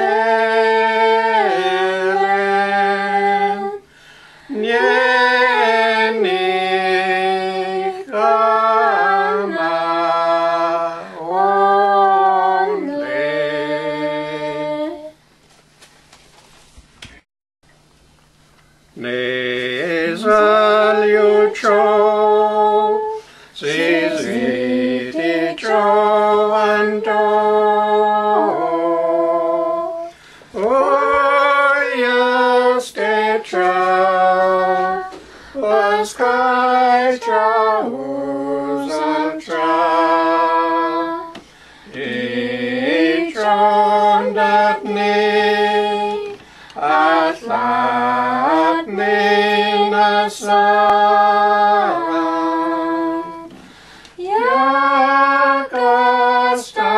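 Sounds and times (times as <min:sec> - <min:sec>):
unaccompanied hymn singing: 0:00.0 - 0:15.3, 0:19.0 - 0:56.9.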